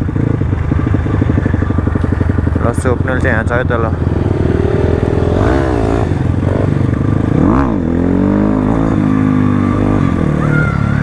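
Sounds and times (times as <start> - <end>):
dirt bike engine revving: 0.2 - 11.0.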